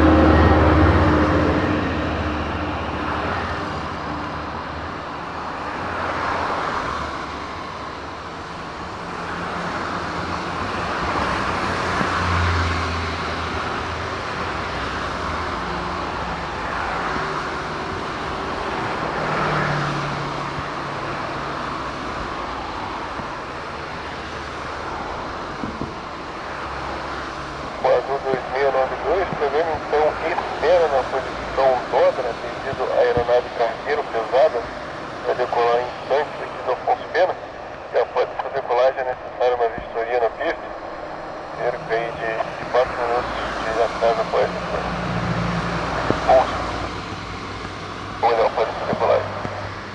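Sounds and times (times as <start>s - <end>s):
jet engines rumbling: 0.0s - 49.9s.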